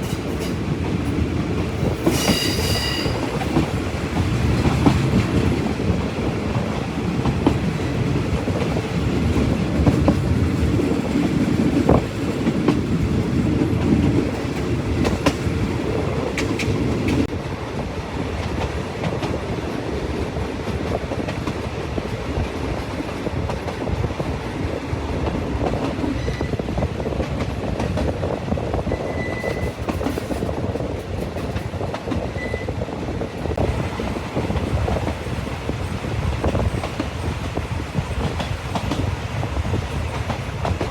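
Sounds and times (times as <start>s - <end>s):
train wheels clattering on track: 0.0s - 40.9s.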